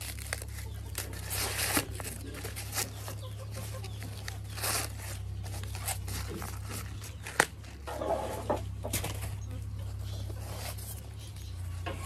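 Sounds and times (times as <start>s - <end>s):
corn husks tearing: 0.0s - 11.2s
steady low hum: 0.0s - 12.0s.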